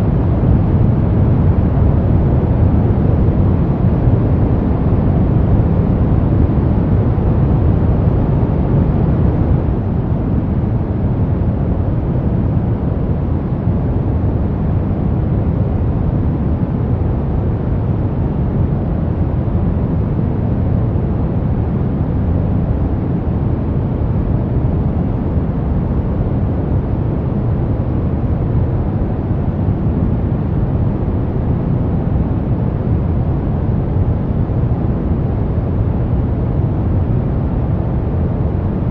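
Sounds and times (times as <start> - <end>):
brown noise: 0.0 - 38.9.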